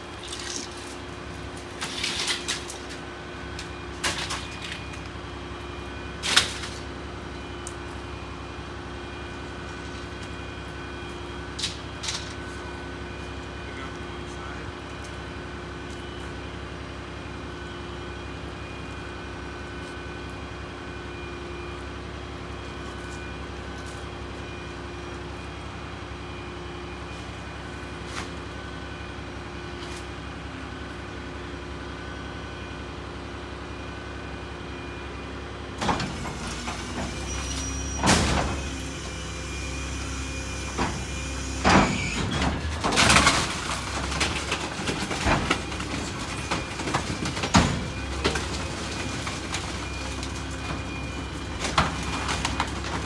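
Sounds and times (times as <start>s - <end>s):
garbage truck engine idling: 0.0s - 53.0s.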